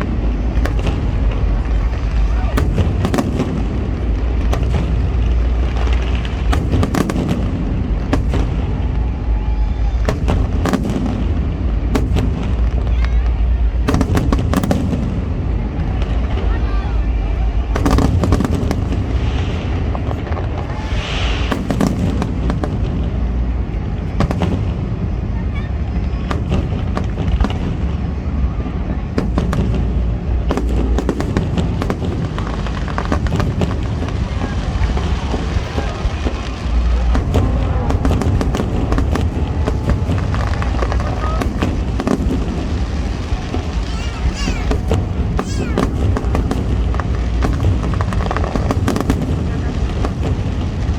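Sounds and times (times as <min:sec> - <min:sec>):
crowd voices: 0:00.0 - 0:50.9
deep rumble: 0:00.0 - 0:50.9
fireworks bangs and crackles: 0:00.0 - 0:50.9.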